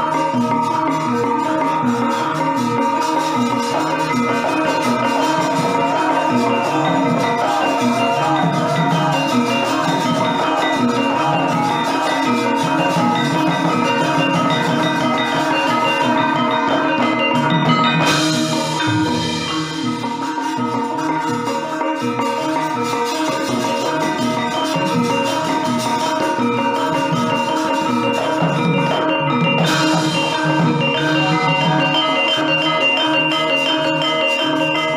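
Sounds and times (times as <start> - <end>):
steady drum beat: 0.0 - 32.3
ringing bronze metallophones: 0.0 - 34.9.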